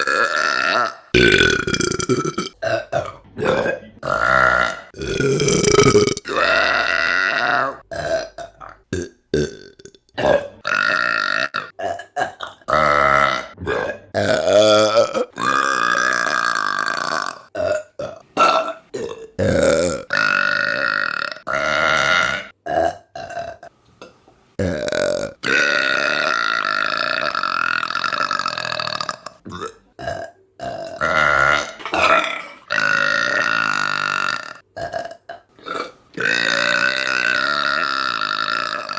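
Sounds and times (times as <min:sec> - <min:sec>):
woman burping: 0:00.0 - 0:23.6, 0:24.6 - 0:38.9.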